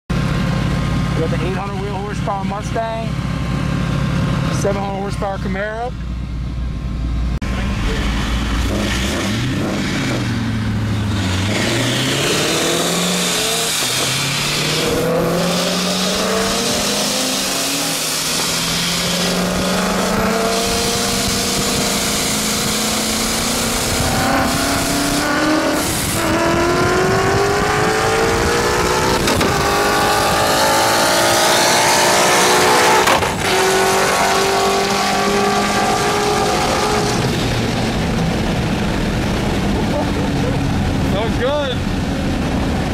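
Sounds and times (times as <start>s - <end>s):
car engine at full throttle: 0.1s - 42.9s.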